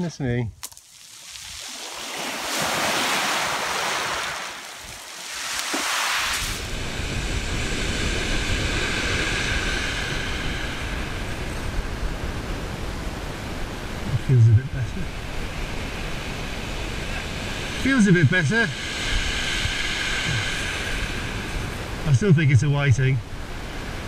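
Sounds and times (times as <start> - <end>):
sea waves surging: 0.9 - 24.0
surf rushing: 1.0 - 24.0
wind rumbling on microphone: 1.4 - 24.0.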